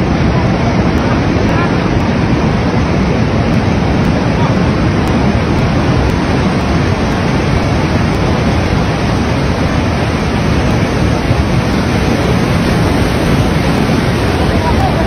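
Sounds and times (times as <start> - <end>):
waves splashing against wall: 0.0 - 15.0
wind buffeting microphone: 0.0 - 15.0.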